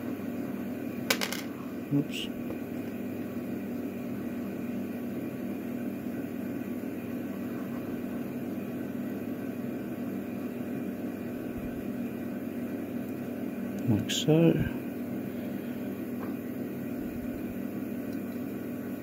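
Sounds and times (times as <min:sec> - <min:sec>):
low mechanical hum with hiss: 0:00.0 - 0:19.0.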